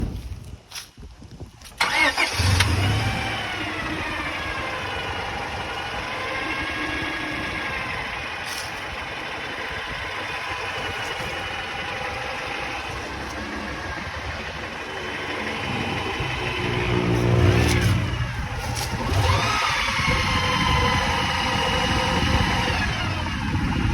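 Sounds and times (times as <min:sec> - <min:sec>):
car engine starting: 0:01.8 - 0:23.9
engine revving: 0:01.8 - 0:23.9
engine idling with knocking: 0:03.5 - 0:23.9.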